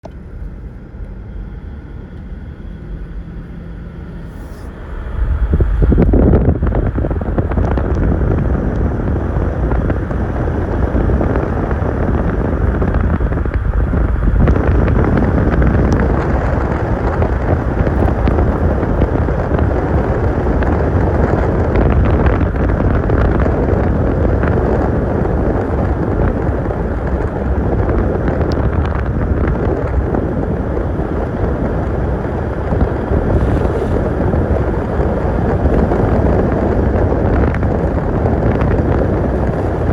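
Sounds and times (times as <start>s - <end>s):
car wind and road noise: 0.0s - 39.9s.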